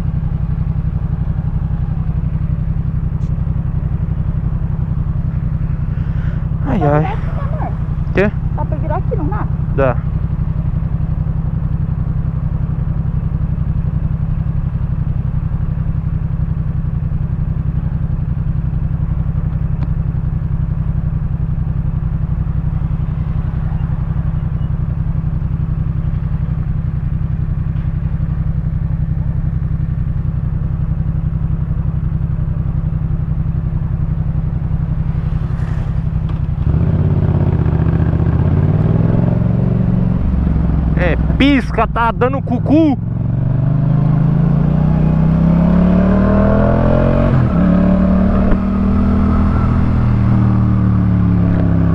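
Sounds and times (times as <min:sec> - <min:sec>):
motorcycle engine riding: 0:00.0 - 0:51.9.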